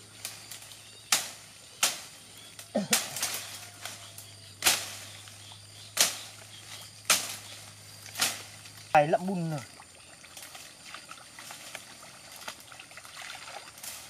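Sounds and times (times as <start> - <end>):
dry twigs snapping: 0.2 - 8.9, 10.3 - 14.0.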